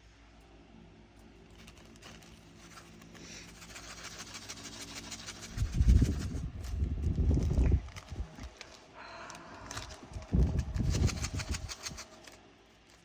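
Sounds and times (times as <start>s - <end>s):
plastic beads rattling: 1.6s - 8.8s, 9.7s - 13.0s.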